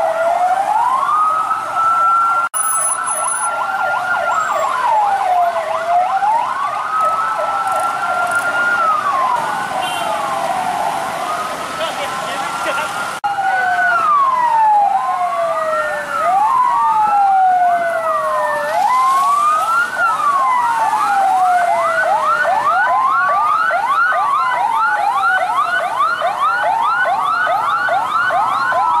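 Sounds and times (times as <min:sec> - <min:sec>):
siren fast yelp: 0:00.0 - 0:29.0
siren slow wail: 0:00.0 - 0:29.0.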